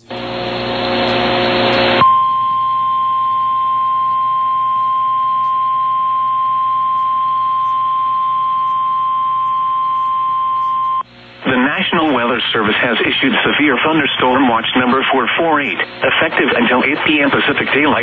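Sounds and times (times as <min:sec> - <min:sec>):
noisy static: 0:00.0 - 0:18.0.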